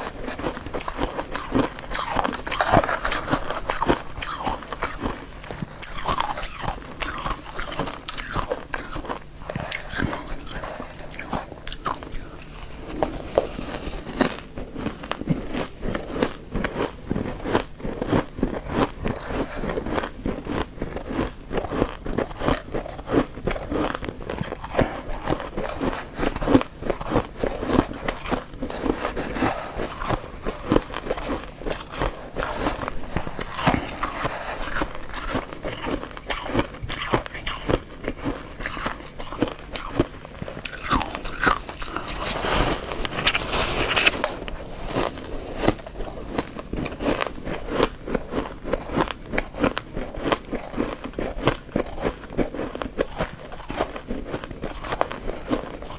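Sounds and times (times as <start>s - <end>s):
frost crunching as it is chewed: 0.0s - 55.9s.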